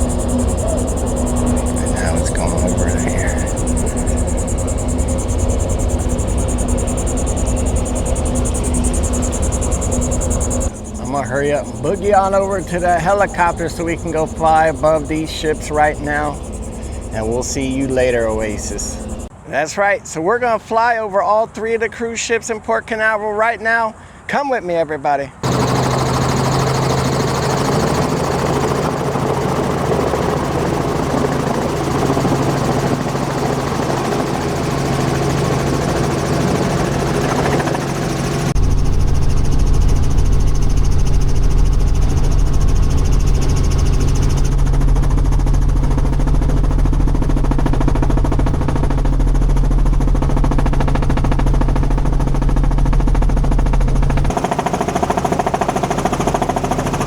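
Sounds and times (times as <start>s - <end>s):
helicopter engine droning: 0.0s - 19.5s, 25.4s - 57.0s.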